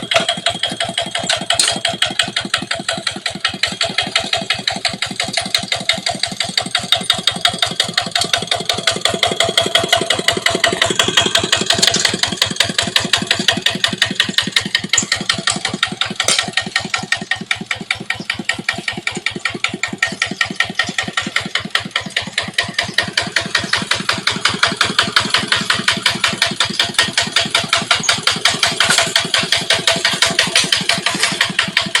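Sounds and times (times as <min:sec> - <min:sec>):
diesel engine knocking: 0:00.0 - 0:32.0.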